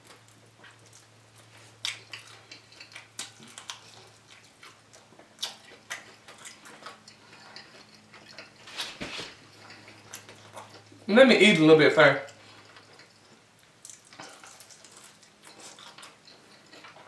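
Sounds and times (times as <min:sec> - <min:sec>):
wet chewing and smacking: 0:00.0 - 0:11.1, 0:12.2 - 0:17.0
low steady hum: 0:00.0 - 0:17.0.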